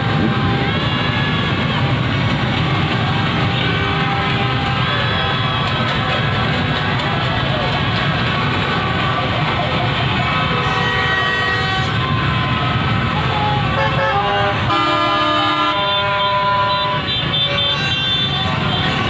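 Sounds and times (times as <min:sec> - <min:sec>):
vehicle horns honking: 0:00.0 - 0:06.0, 0:08.4 - 0:19.0
crowd voices: 0:00.0 - 0:19.0
engines rumbling: 0:00.0 - 0:19.0.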